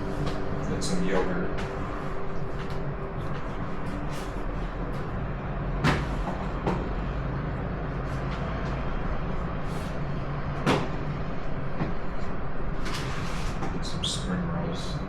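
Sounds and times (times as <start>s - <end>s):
street traffic hum: 0.0s - 15.0s.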